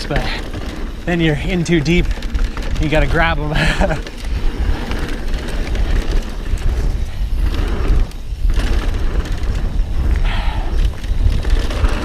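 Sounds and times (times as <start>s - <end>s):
bike rattling over bumps: 0.0s - 12.0s
bike tyres rumbling on dirt: 0.0s - 12.0s
wind buffeting microphone: 0.0s - 12.0s.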